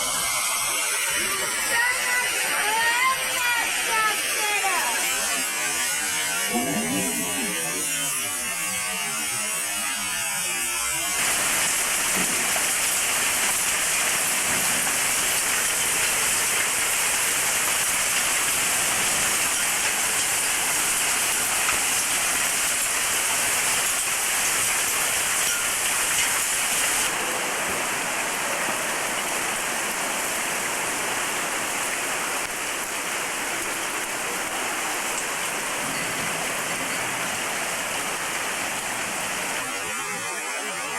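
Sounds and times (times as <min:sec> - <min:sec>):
torrential rain pouring: 0:00.0 - 0:09.3, 0:10.7 - 0:40.9.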